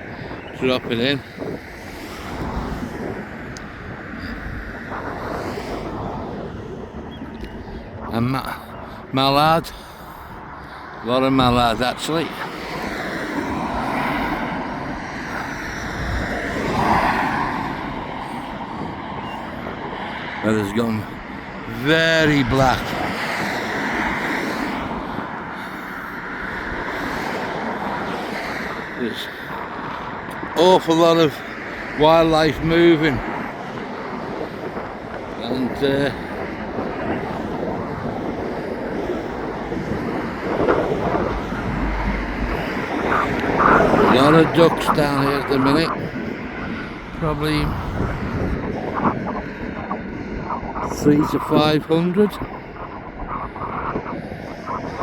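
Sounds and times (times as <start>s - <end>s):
car passing: 0.0s - 55.0s
road traffic passing: 0.0s - 55.0s
wind buffeting microphone: 0.0s - 55.0s.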